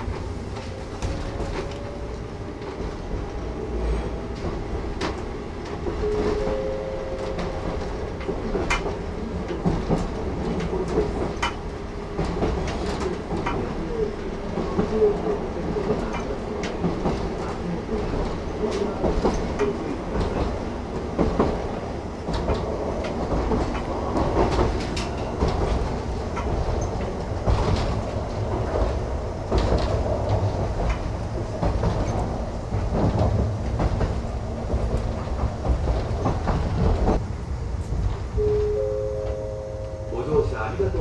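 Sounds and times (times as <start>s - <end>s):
train interior rumble: 0.0s - 41.0s.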